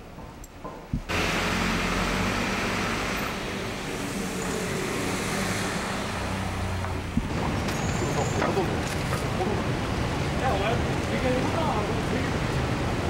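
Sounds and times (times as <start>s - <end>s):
rushing road noise: 1.1s - 13.0s.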